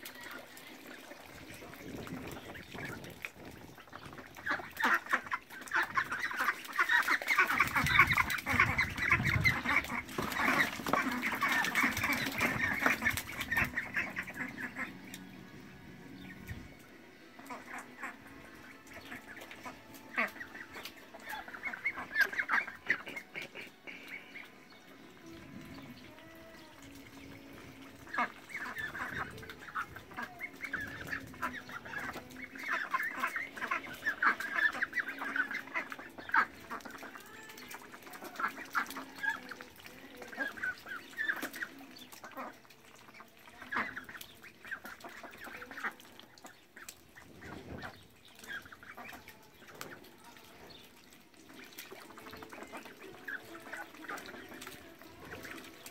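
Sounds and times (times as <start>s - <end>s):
ducks quacking: 0.0s - 55.9s.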